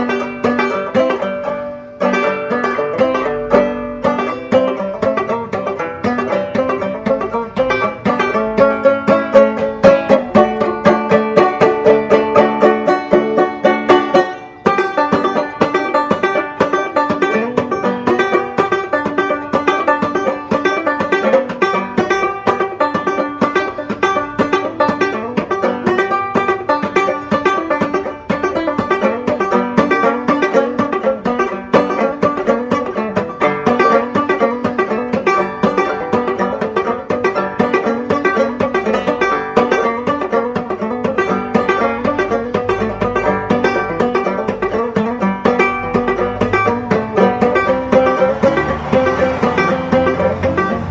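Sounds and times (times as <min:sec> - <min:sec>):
banjo playing: 0:00.0 - 0:50.9.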